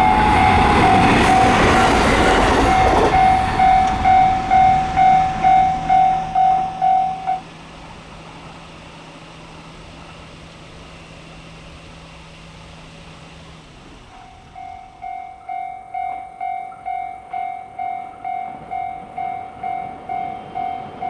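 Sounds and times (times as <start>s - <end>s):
level-crossing warning bell: 0.0s - 21.0s
passing train rushing: 0.0s - 21.0s.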